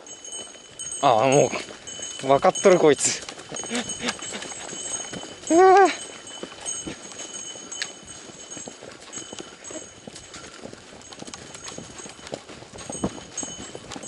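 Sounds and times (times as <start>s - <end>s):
horse hooves clip-clopping on dirt: 0.0s - 14.0s.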